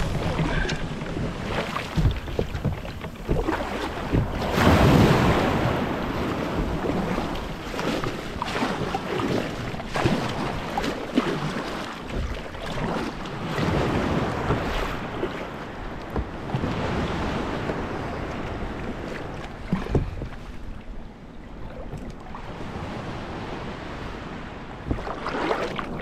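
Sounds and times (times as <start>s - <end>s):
kayak paddle splashing: 0.0s - 26.0s
surf washing around hull: 0.0s - 26.0s.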